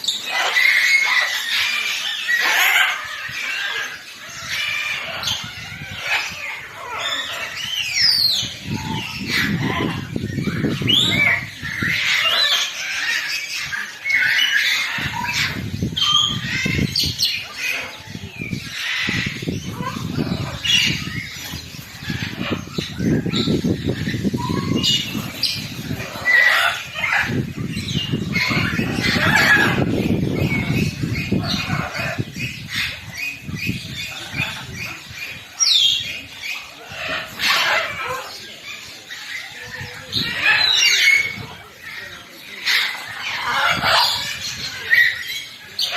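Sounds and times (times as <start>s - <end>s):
birds chirping: 0.0s - 45.9s.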